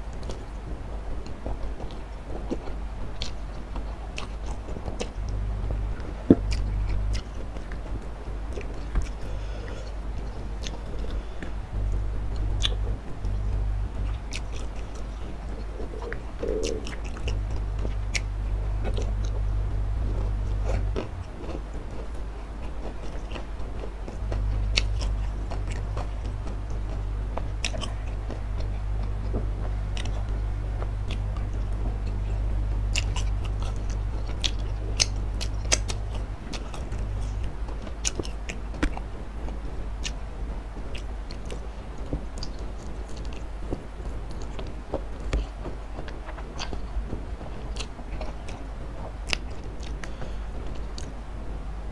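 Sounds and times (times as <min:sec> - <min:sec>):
chewing and crunching: 0:00.0 - 0:51.2
steady low hum: 0:00.0 - 0:51.9.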